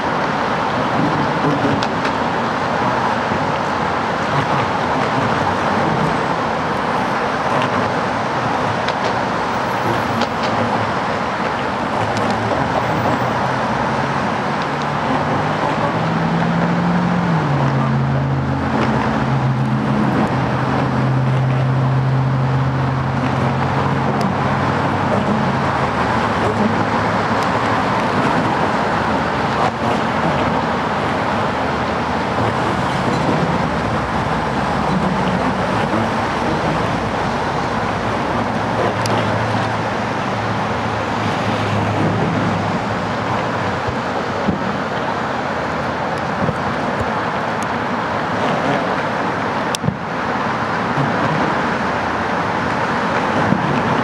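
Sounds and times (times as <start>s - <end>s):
low engine hum: 0.0s - 54.0s
road traffic roar: 0.0s - 54.0s.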